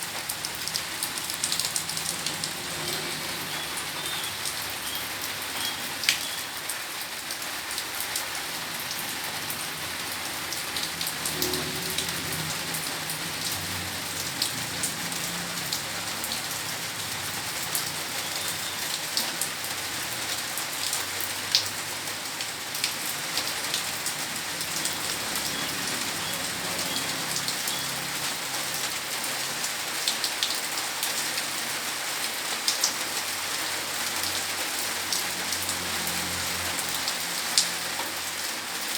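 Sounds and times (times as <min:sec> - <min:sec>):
raindrops striking close by: 0:00.0 - 0:38.9
steady rain falling: 0:00.0 - 0:38.9.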